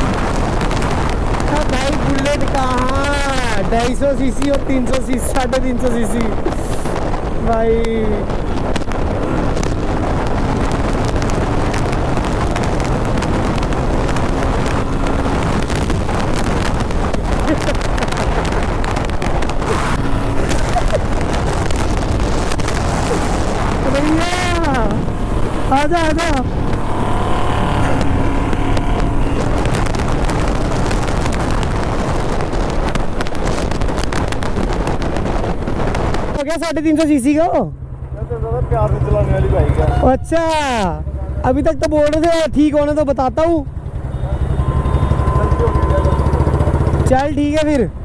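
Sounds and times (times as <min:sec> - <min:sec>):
motorcycle engine running: 0:00.0 - 0:36.3, 0:37.7 - 0:48.0
wind rushing over microphone: 0:00.0 - 0:48.0.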